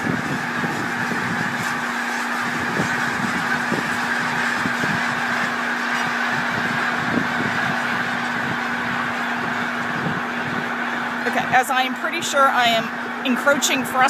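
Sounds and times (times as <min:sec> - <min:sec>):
flock of geese honking: 0:00.0 - 0:14.0.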